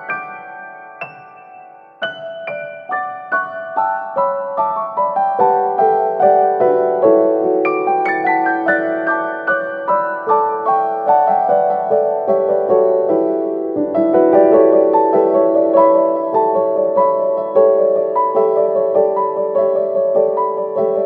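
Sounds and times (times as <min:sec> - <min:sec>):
piano-like keyboard music: 0:00.0 - 0:21.0.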